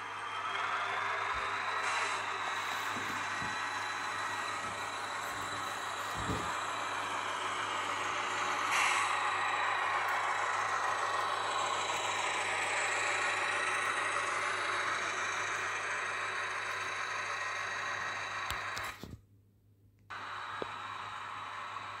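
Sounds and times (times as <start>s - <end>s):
diesel engine sound from speaker: 0.0s - 19.1s, 20.1s - 22.0s
model wheels on track: 0.0s - 19.2s, 20.1s - 22.0s.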